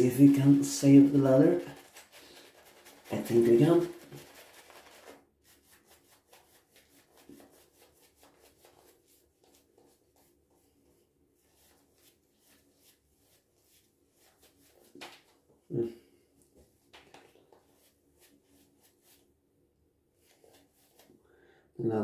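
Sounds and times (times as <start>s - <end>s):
wet shaving brush strokes: 0.0s - 15.5s, 16.4s - 19.4s, 20.2s - 21.2s.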